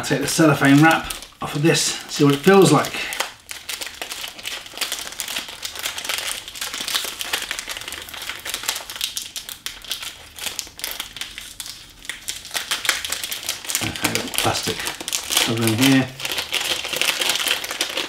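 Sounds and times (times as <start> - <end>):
cellophane crinkling: 0.0 - 18.0.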